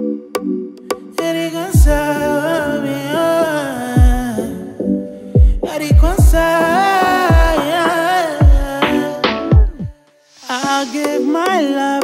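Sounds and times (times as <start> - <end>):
person singing over backing: 1.1 - 12.0.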